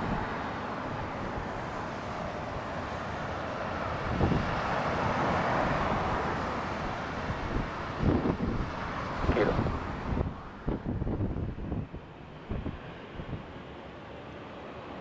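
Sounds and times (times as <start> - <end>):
wind rushing over microphone: 0.0 - 13.7.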